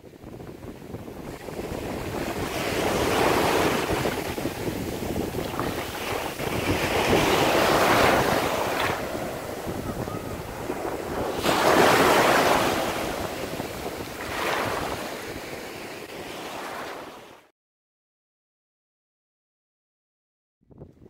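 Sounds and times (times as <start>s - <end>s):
wind buffeting microphone: 0.0s - 16.7s, 20.7s - 21.0s
surf washing onto beach: 0.1s - 17.4s.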